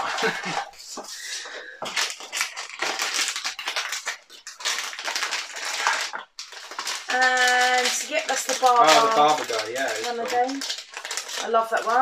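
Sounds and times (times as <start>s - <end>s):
foil bag crinkling: 0.0s - 12.0s.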